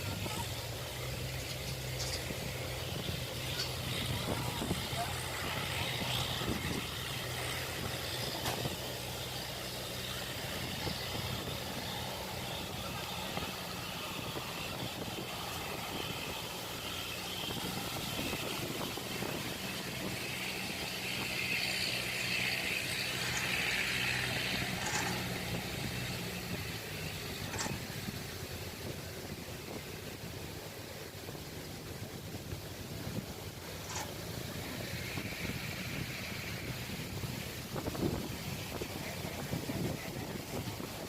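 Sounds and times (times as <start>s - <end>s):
combine harvester engine running: 0.0s - 41.0s.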